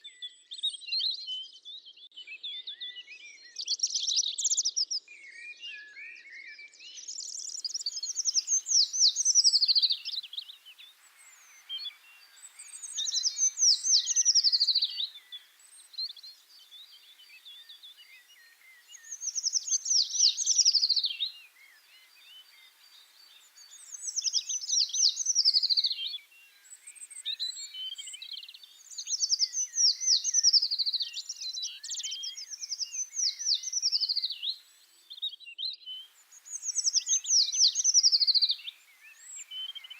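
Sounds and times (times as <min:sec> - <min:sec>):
faint bird chirps: 0:00.0 - 0:39.9
songbird singing descending notes: 0:07.1 - 0:35.2, 0:36.0 - 0:39.9.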